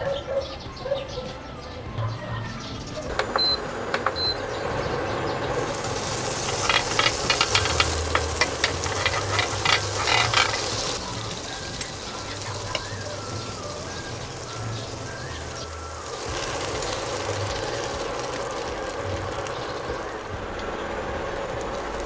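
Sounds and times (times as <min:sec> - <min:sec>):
crackles and pops: 0:03.1 - 0:22.0
butter sizzling in a grill pan: 0:03.2 - 0:22.0.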